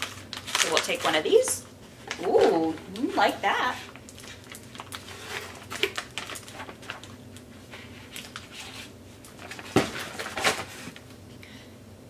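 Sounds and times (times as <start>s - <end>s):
plastic pouch crinkling: 0.0s - 10.6s.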